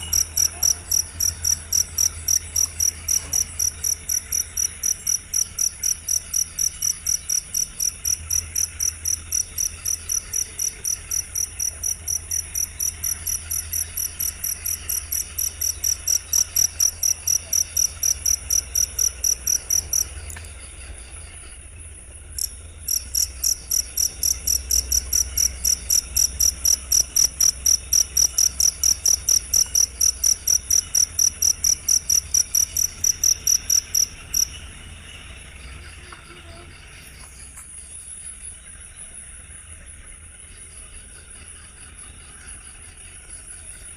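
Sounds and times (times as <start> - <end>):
cricket chirping: 0.0 - 43.9.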